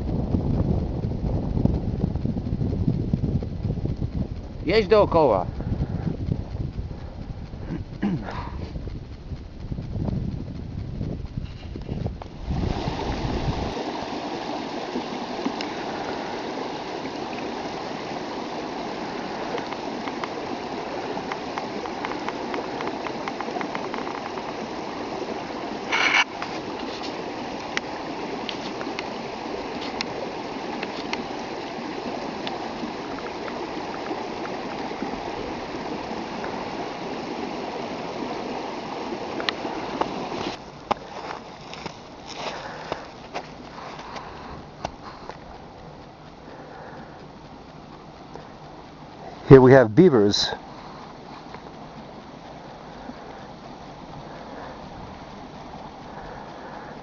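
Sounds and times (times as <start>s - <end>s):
stream water running: 0.0s - 2.8s, 3.6s - 8.8s, 11.0s - 57.0s.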